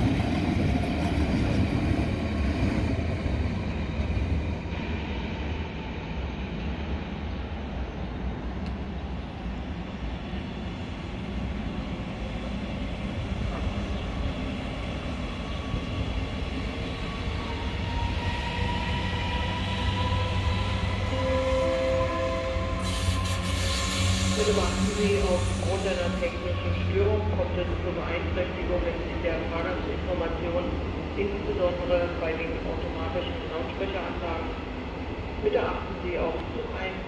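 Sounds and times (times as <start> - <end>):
train rumbling through station: 0.0 - 37.0.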